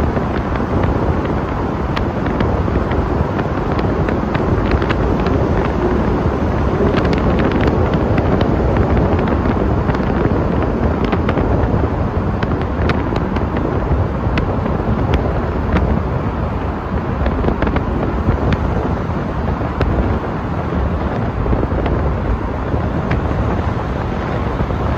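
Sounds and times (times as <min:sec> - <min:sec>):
road and tyre noise: 0:00.0 - 0:24.9.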